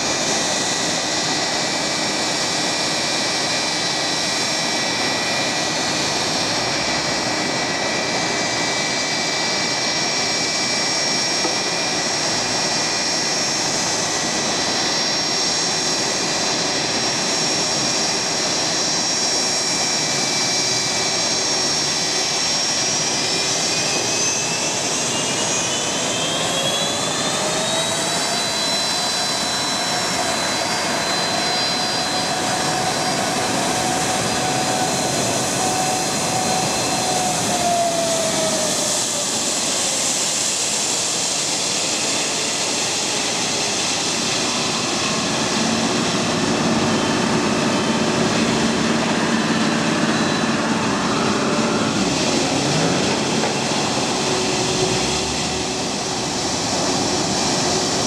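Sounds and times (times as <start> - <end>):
jet engines taxiing: 0.0 - 58.0.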